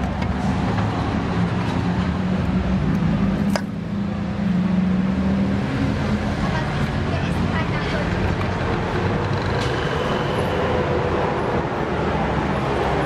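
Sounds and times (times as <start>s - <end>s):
busy street market: 0.0s - 13.0s
low traffic hum: 0.0s - 13.0s.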